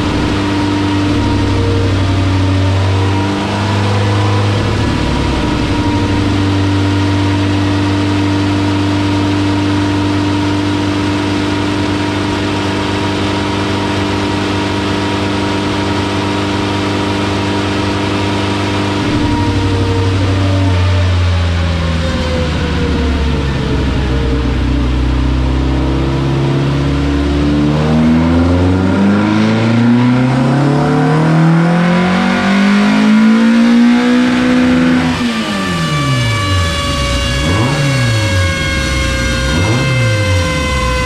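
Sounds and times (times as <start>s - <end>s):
car engine running under load: 0.0s - 41.0s.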